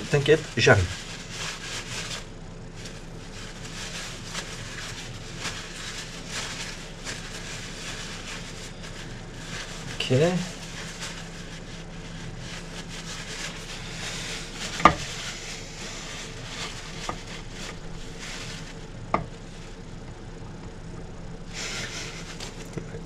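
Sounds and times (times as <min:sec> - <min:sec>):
paper towel rustling: 0:00.0 - 0:20.0, 0:20.7 - 0:23.0.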